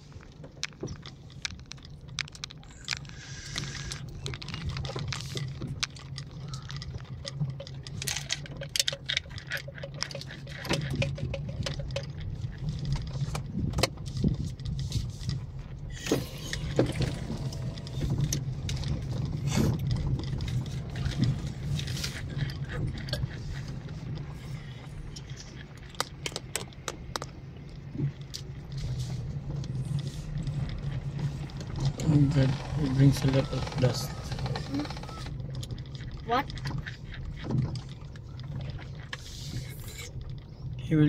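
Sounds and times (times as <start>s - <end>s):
car rattles and knocks: 0.0s - 39.2s
engine and tyres rumbling: 0.0s - 41.0s.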